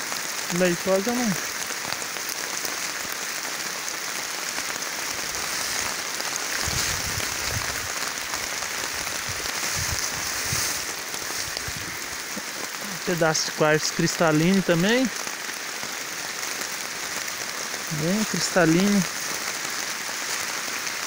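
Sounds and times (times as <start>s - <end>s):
rain patter: 0.0s - 21.0s.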